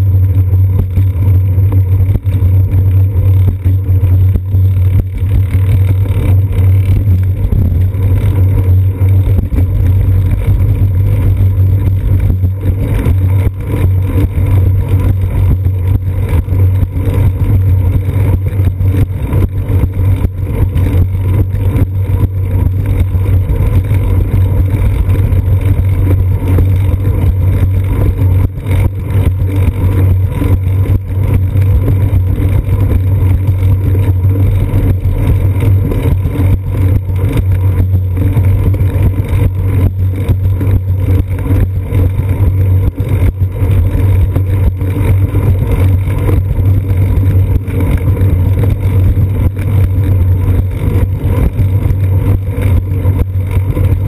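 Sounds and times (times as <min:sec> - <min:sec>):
constant low hum: 0:00.0 - 0:54.0
road vibration rumble: 0:00.0 - 0:54.0.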